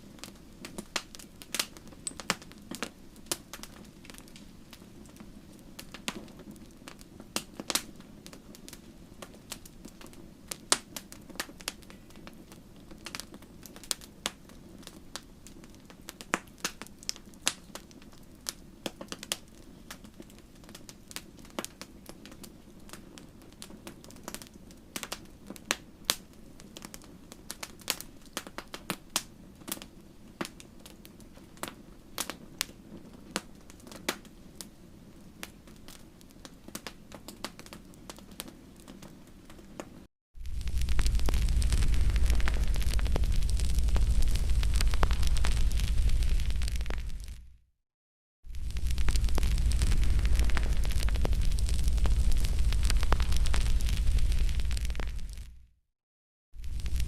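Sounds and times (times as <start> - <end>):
wood fire crackling and popping: 0.0 - 47.6, 48.5 - 55.7, 56.6 - 57.0.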